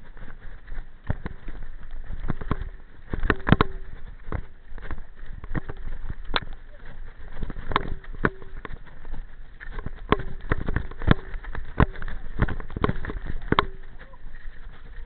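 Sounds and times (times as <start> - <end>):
bike wheels clattering over rocks: 0.0 - 15.0
wind rumble on microphone: 0.0 - 15.0.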